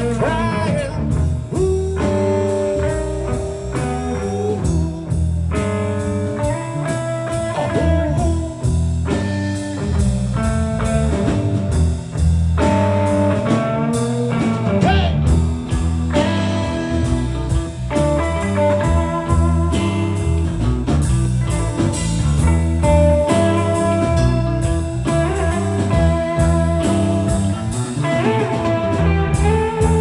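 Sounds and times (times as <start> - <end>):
electric guitar lines: 0.0 - 30.0
repeating bass riff: 0.0 - 30.0
steady drum beat: 0.0 - 30.0.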